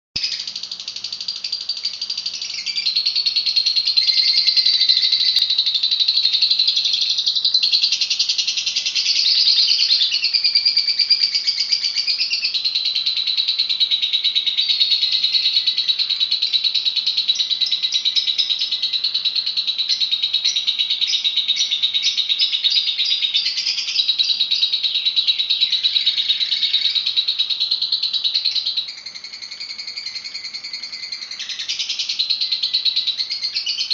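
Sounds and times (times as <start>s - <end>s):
lovebird chattering trill: 0.2s - 33.9s.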